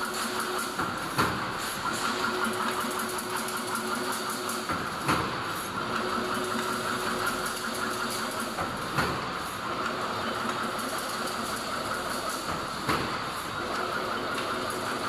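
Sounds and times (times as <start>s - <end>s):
machine mechanical clatter: 0.0s - 15.0s.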